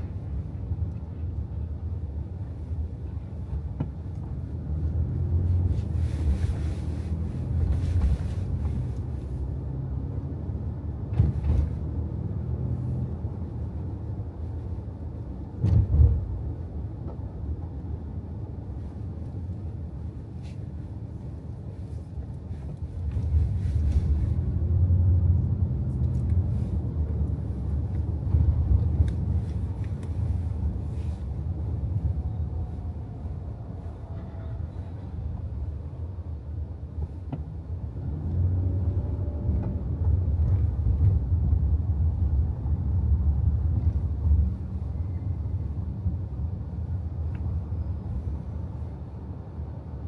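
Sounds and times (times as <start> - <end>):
low rumble of tunnel traffic: 0.0 - 50.0.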